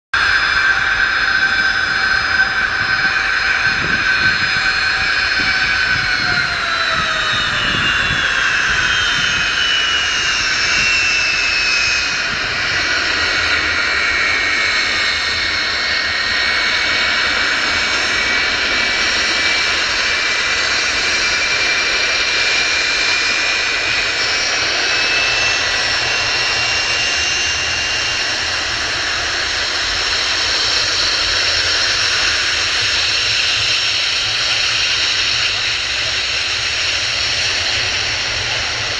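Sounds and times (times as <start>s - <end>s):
jet engines roaring and whining: 0.2s - 38.9s.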